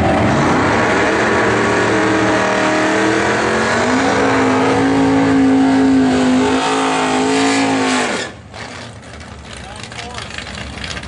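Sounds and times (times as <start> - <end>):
drag racing cars at high revs: 0.0 - 11.0.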